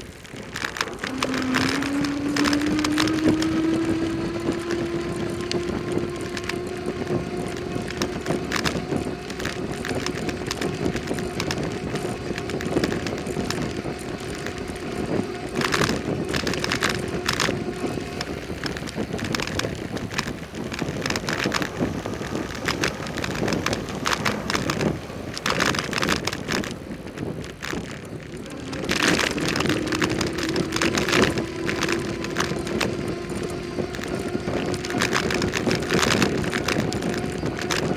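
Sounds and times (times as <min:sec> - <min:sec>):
tyre and road noise: 0:00.0 - 0:37.9
wind rushing over microphone: 0:00.0 - 0:37.9.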